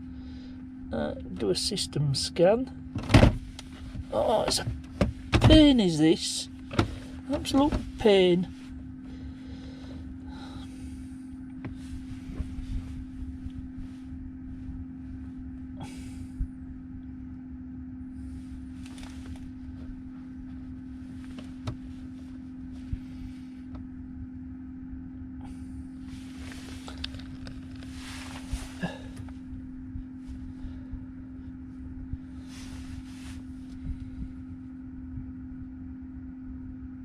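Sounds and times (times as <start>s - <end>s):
electrical hum: 0.0s - 37.0s
faint rumble: 0.0s - 37.0s.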